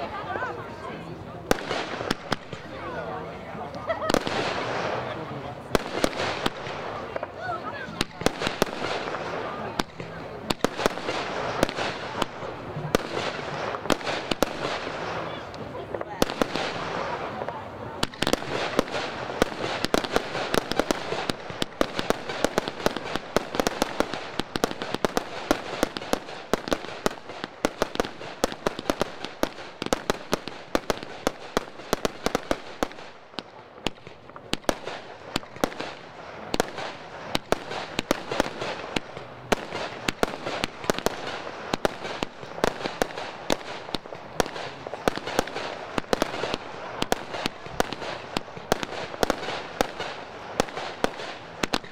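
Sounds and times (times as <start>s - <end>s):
fireworks bangs and cracks: 0.0s - 51.9s.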